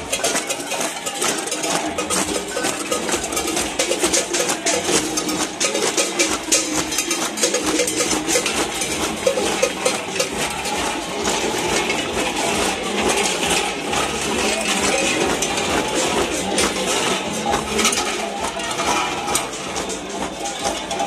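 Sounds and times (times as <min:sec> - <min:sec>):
street crowd noise: 0:00.0 - 0:21.0.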